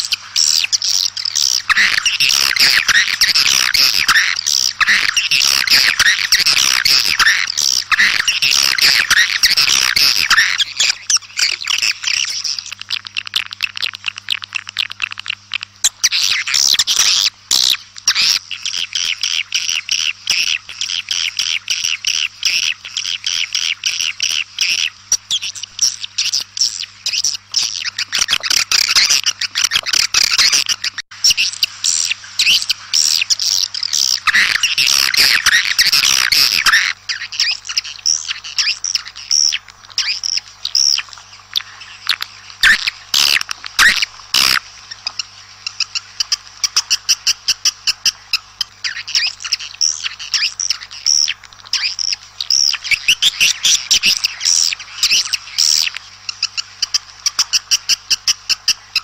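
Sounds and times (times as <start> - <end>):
swiftlets twittering: 0.0 - 58.7
faint steady hum: 0.0 - 59.0.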